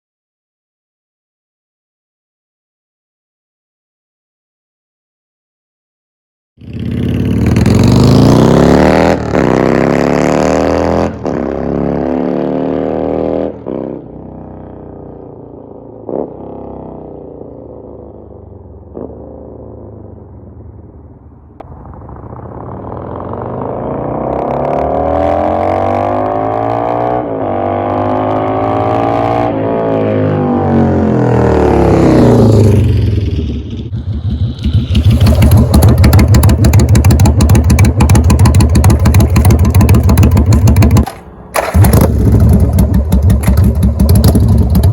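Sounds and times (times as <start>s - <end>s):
motorcycle engine revving: 6.6s - 21.0s, 21.6s - 44.9s.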